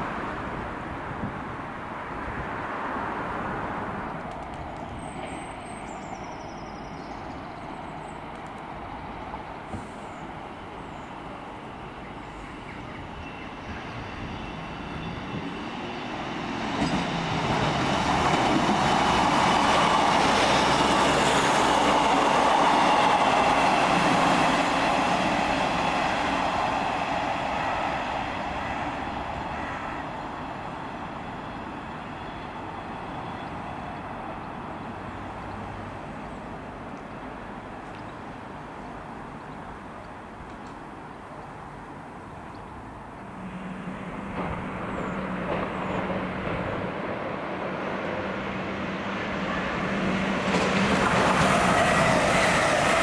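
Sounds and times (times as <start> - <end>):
train passing: 0.0 - 53.0.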